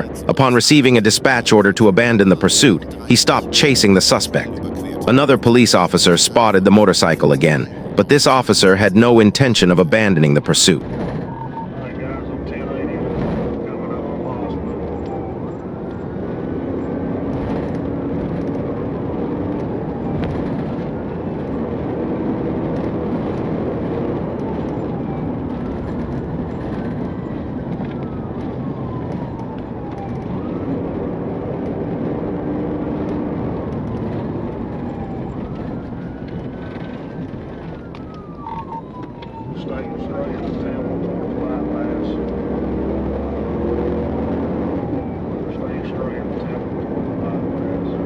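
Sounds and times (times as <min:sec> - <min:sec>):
car engine and road noise: 0:00.0 - 0:48.0
police siren wailing: 0:00.0 - 0:48.0.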